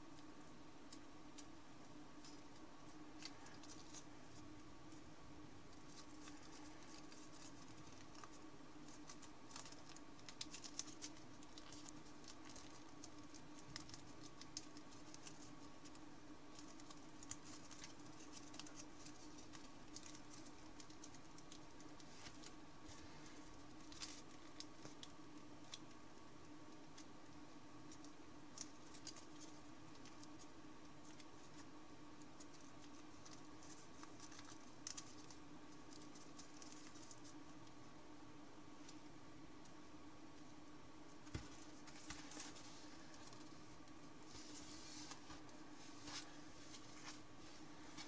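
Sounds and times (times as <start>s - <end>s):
faint hum: 0.0s - 48.0s
paper crinkling: 2.2s - 5.0s, 5.7s - 26.0s, 27.9s - 37.5s, 41.2s - 48.0s.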